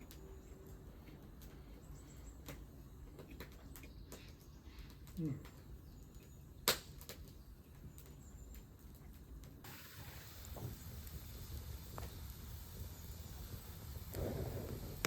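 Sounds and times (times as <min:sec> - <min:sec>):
campfire crackling and popping: 0:02.4 - 0:15.0.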